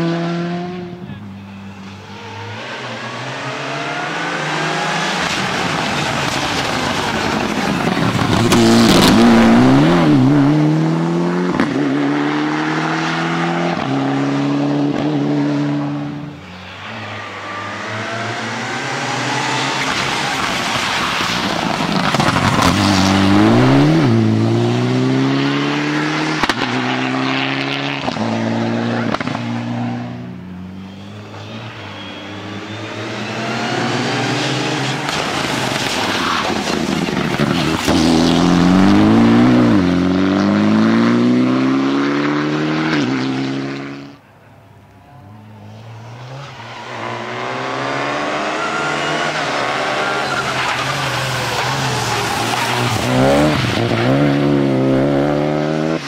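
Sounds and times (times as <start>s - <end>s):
rally car engine accelerating: 1.9s - 16.2s, 16.8s - 30.2s, 30.8s - 44.2s, 45.7s - 56.0s.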